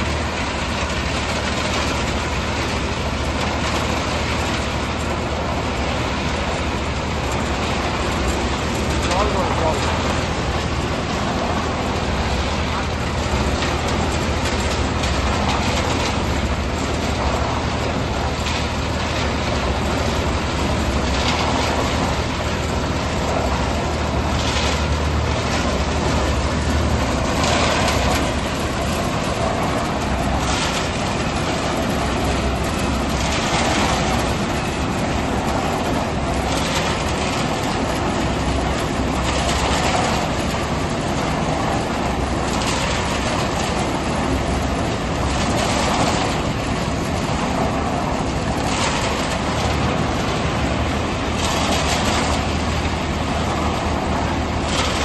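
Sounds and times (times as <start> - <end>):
low engine drone: 0.0 - 55.0
machine clattering and rattling: 0.0 - 55.0.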